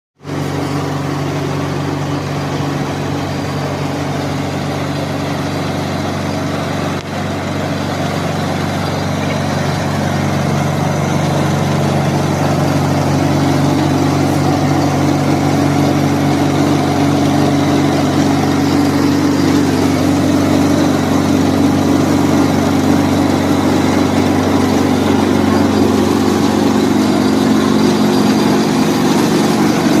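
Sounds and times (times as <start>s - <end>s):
rice mill machine hum: 0.2s - 30.0s.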